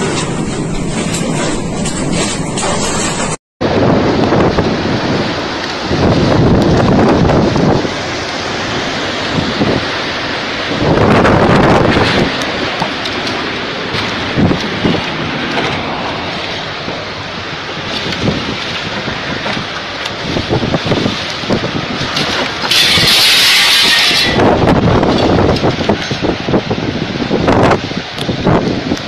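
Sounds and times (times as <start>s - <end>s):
strong wind over microphone: 0.0s - 29.0s.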